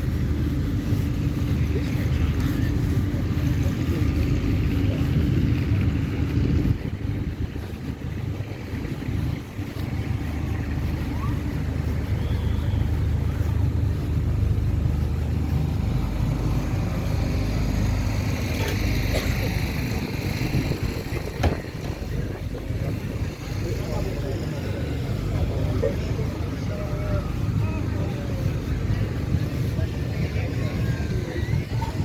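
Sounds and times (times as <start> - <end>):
low engine running: 0.0 - 32.0.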